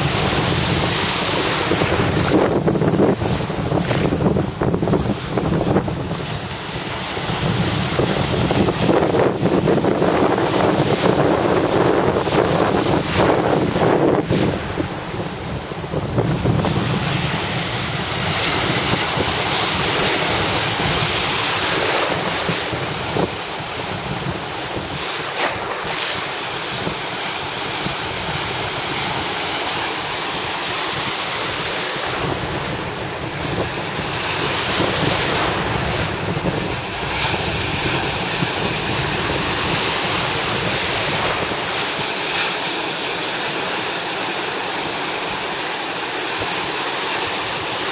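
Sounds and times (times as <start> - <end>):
wind buffeting microphone: 0.0 - 45.6
small waves breaking: 0.0 - 47.9
whitewater washing up beach: 0.0 - 47.9.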